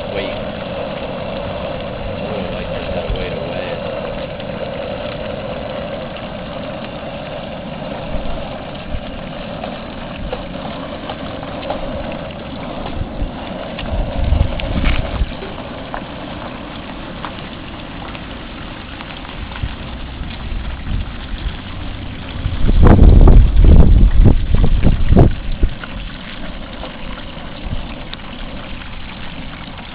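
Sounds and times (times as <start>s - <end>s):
propane burner rushing: 0.0s - 29.9s.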